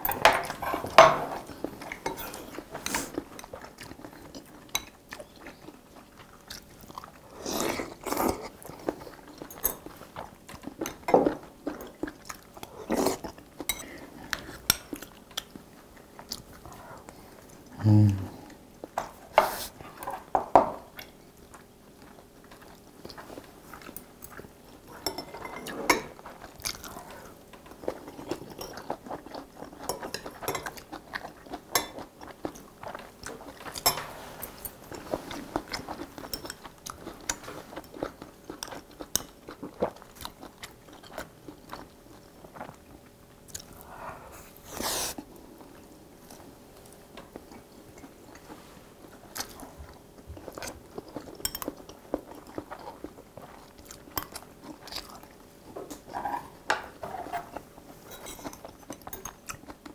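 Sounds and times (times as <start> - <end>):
chewing and eating: 0.0 - 59.9.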